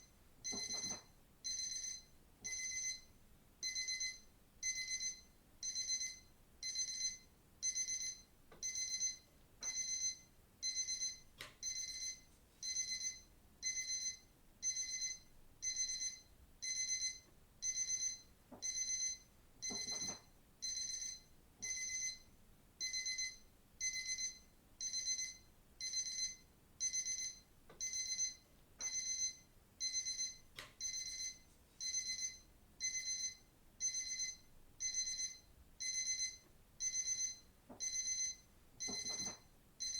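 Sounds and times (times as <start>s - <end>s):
digital watch alarm beeping: 0.5s - 22.2s, 22.8s - 39.9s.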